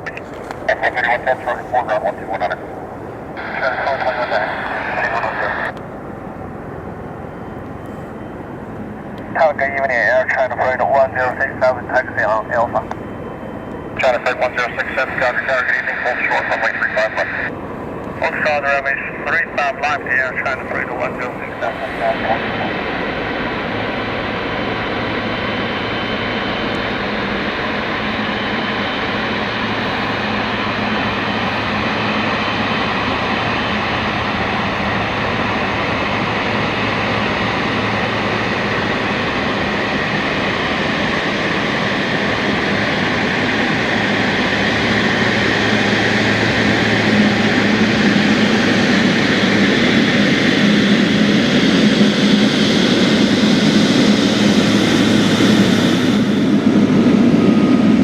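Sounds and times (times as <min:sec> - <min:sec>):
jet engine running: 0:00.0 - 0:58.0.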